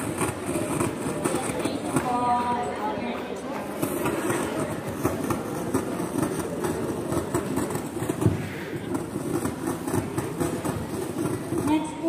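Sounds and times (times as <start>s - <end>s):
crowd murmur: 0.0s - 12.0s.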